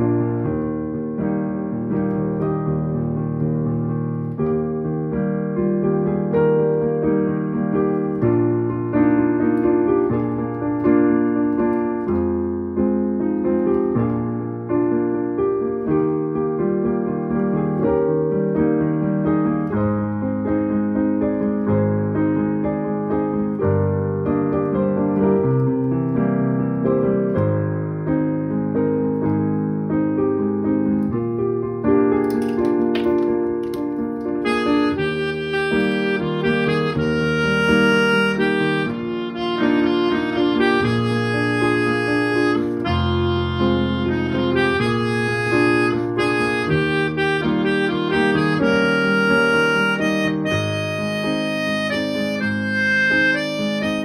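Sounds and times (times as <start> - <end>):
digital piano chords and melody: 0.0 - 54.0.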